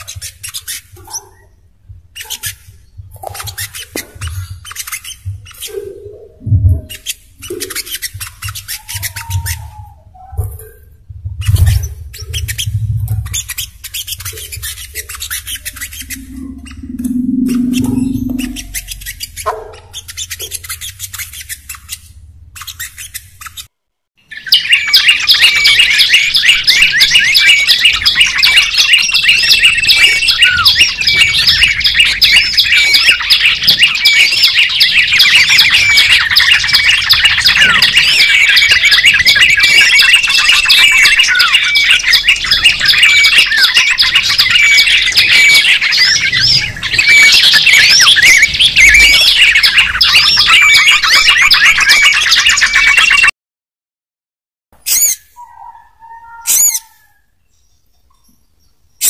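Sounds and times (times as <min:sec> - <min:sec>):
high-pitched bird chirping: 0:00.0 - 0:53.3, 0:54.8 - 0:59.0.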